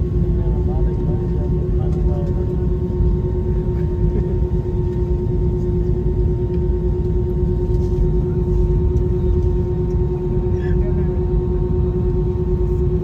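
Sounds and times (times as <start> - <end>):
airliner cabin rumble and hum: 0.0 - 13.0.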